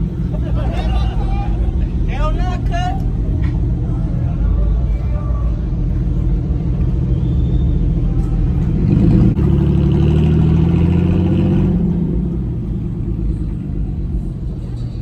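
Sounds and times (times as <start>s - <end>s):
truck engine rumbling and revving: 0.0s - 15.0s.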